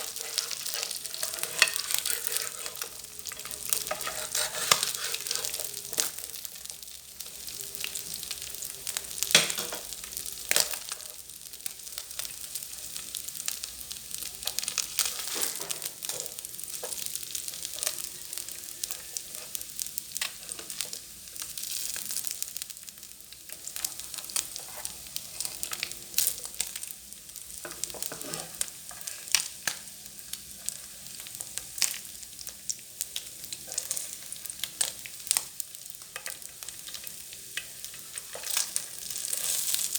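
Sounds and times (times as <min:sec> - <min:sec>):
fish frying in hot oil: 0:00.0 - 0:39.9.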